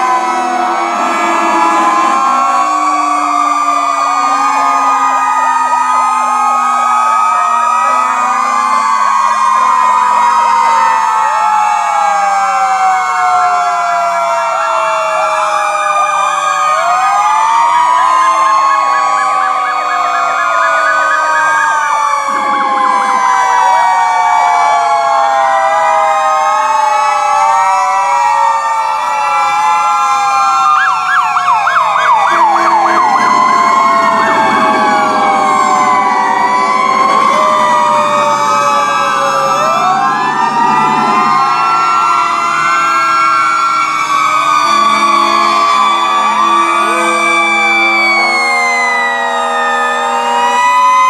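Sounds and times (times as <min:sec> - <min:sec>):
emergency vehicle sirens wailing: 0:00.0 - 0:51.0
siren fast yelp: 0:00.0 - 0:51.0.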